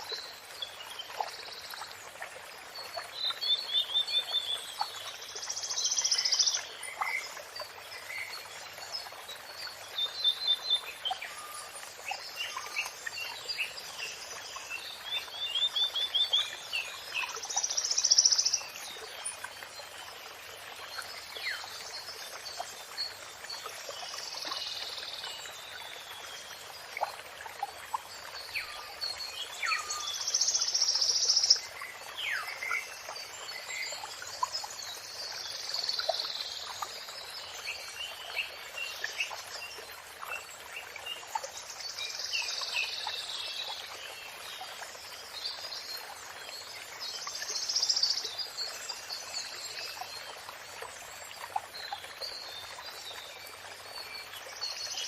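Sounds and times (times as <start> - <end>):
running water: 0.0 - 55.0
songbirds singing: 0.0 - 55.0.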